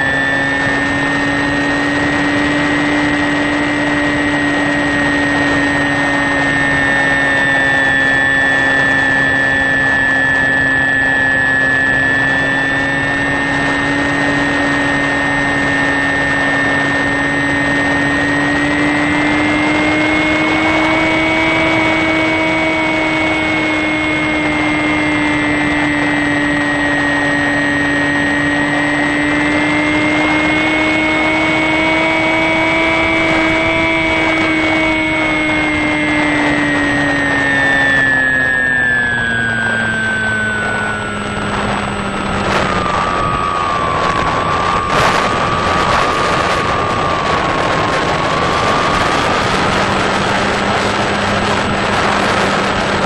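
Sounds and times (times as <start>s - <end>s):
model plane motor whine: 0.0s - 53.0s
wind noise: 0.0s - 53.0s.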